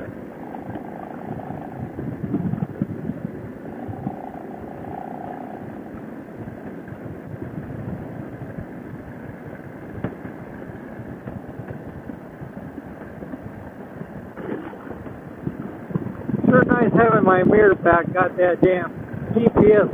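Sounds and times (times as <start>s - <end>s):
wind noise: 0.0s - 19.9s.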